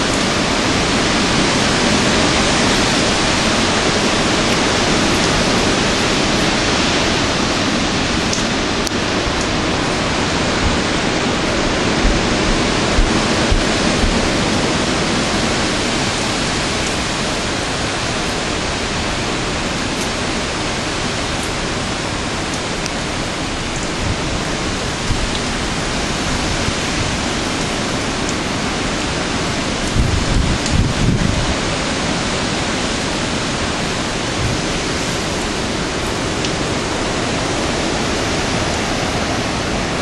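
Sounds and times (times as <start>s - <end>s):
gusts buffeting microphone: 0.0s - 40.0s
hurricane wind roaring: 0.0s - 40.0s.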